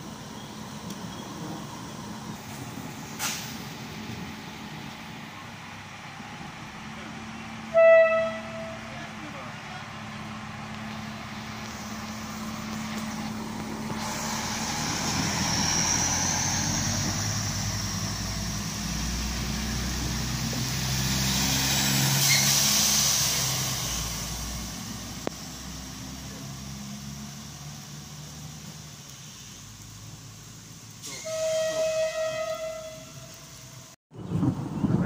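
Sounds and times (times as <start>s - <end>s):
rain hiss: 0.0s - 7.7s, 8.7s - 34.0s
diesel railcar accelerating: 0.0s - 35.0s.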